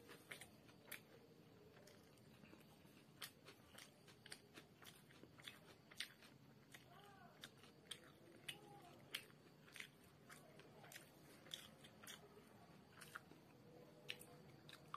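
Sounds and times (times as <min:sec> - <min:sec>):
chewing crunches: 0:00.0 - 0:14.9.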